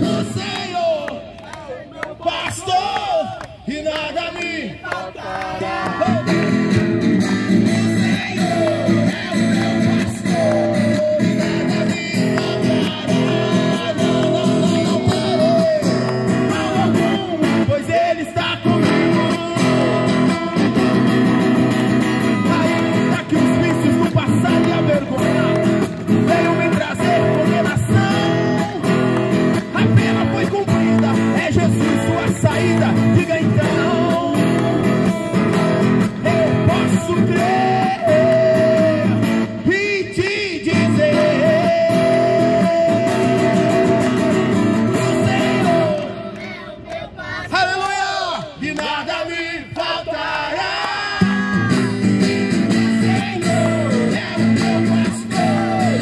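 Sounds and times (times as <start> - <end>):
man singing into microphone: 0.0 - 1.2, 1.8 - 6.5, 7.6 - 21.1, 22.2 - 46.3, 47.5 - 56.0
acoustic guitar strumming: 5.9 - 46.3, 51.2 - 56.0.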